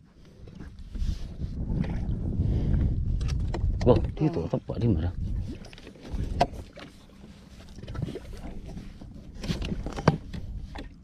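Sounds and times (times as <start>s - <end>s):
low rumbling handling noise: 0.4s - 11.0s.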